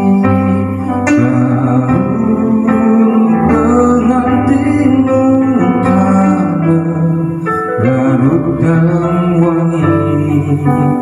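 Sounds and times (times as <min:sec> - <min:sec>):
guitar backing music: 0:00.0 - 0:11.0
man singing into a microphone: 0:00.0 - 0:11.0.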